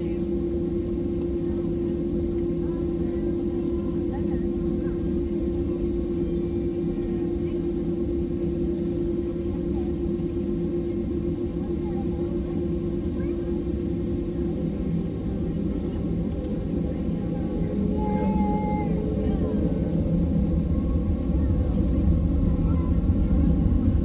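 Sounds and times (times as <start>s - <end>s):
airplane engines rumbling in cabin: 0.0s - 24.0s.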